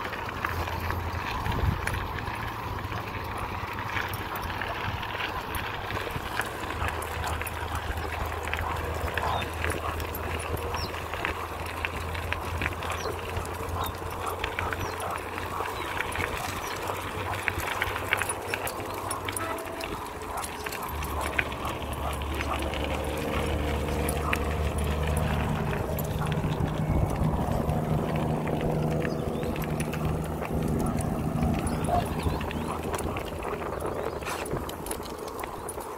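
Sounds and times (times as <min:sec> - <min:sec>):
dog paws crunching on gravel: 0:00.0 - 0:35.9
small scattered clicks: 0:00.0 - 0:35.9
wheels crunching on gravel: 0:00.0 - 0:35.9.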